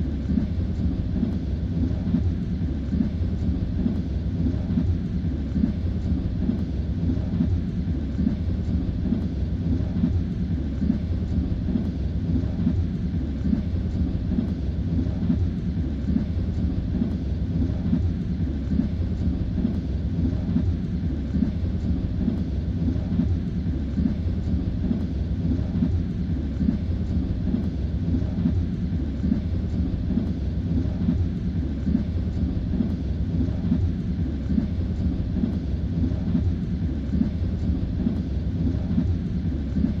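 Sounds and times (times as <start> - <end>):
train rumble inside carriage: 0.0 - 40.0.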